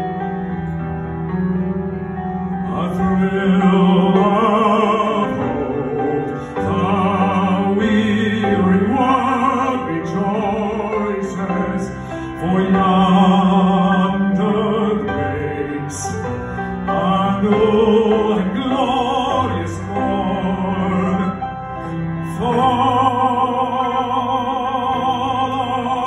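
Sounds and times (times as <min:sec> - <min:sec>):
piano and band accompaniment: 0:00.0 - 0:26.0
man singing operatically: 0:02.6 - 0:21.5, 0:22.1 - 0:26.0.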